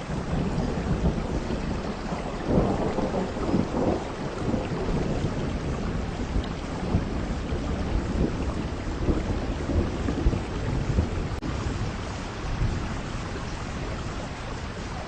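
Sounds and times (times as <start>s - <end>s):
heavy rain falling: 0.0s - 15.0s
wind: 0.0s - 15.0s.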